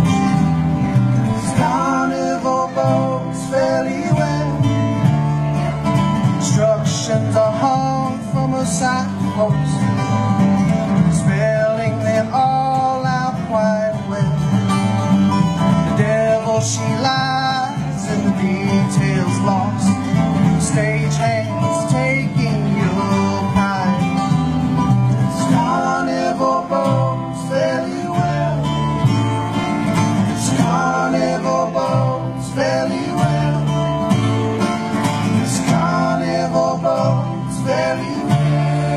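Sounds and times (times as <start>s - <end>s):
acoustic guitars picking: 0.0s - 38.9s
plucked upright bass: 0.0s - 38.9s.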